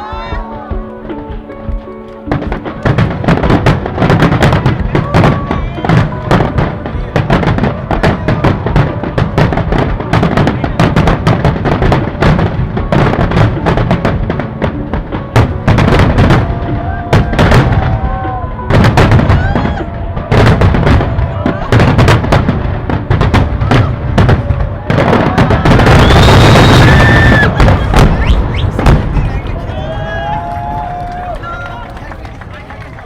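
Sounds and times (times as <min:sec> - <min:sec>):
fireworks booming and crackling: 0:00.0 - 0:33.0.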